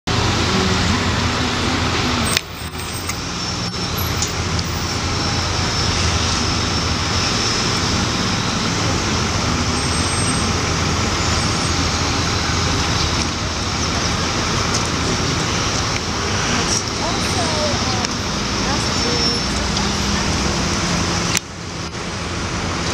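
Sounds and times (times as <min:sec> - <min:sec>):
cars and trucks passing: 0:00.1 - 0:22.9.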